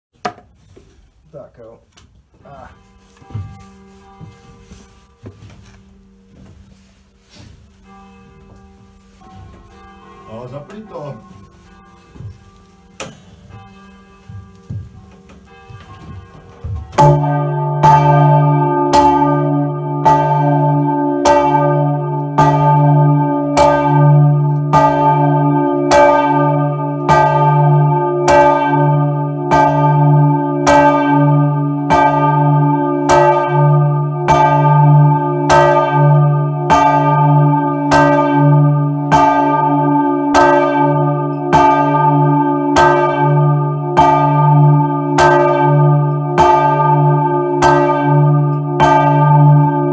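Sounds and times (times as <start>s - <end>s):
large church bell ringing: 2.4s - 49.9s.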